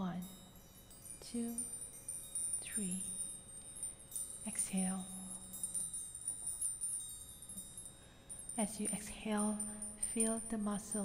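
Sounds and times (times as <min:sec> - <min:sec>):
wind chimes ringing: 0:00.0 - 0:11.0.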